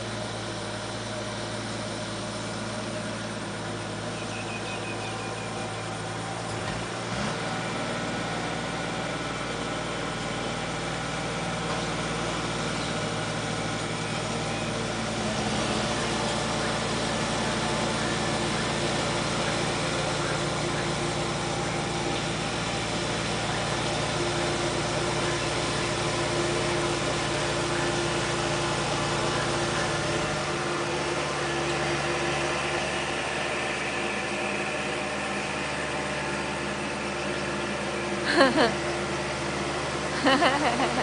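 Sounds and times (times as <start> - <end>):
tractor engines running: 0.0 - 41.0.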